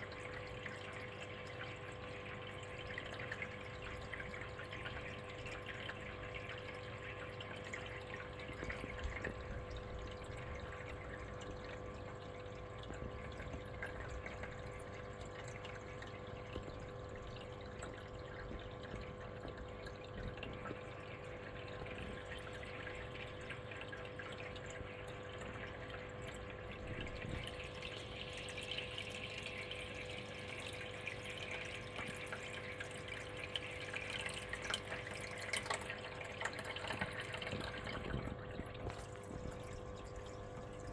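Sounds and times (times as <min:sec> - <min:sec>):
pump hum: 0:00.0 - 0:40.9
water trickling and dripping: 0:00.0 - 0:40.9.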